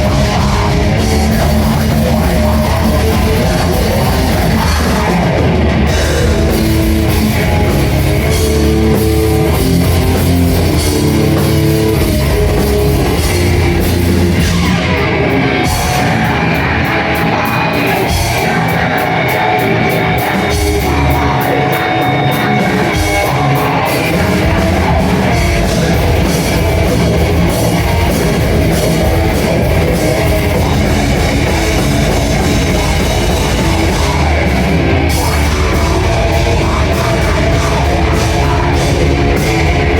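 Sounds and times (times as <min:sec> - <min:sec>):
rock music with drums and guitar: 0:00.0 - 0:39.9.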